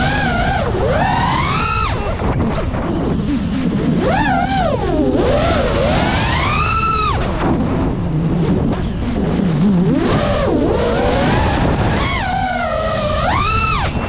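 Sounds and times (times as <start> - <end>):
drone motors whining: 0.0 - 14.0
wind rush: 0.0 - 14.0.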